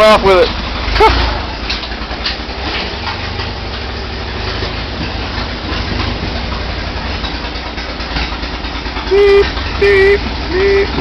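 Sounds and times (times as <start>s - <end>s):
old truck engine running: 0.0s - 11.0s.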